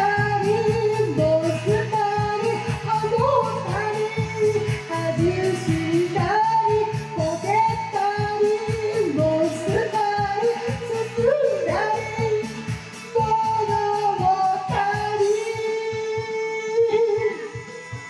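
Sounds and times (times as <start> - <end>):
woman singing pop song: 0.0 - 18.0.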